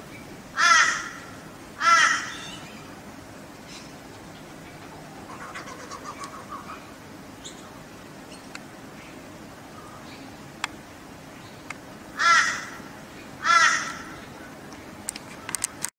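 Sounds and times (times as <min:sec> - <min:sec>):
harsh bird calls: 0:00.1 - 0:03.0, 0:03.6 - 0:10.4, 0:11.3 - 0:15.6.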